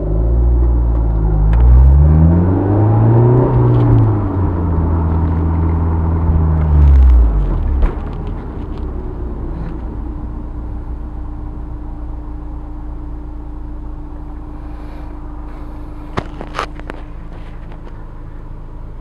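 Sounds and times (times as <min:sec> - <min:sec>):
car exhaust hum: 0:00.0 - 0:19.0
road rumble: 0:00.0 - 0:19.0.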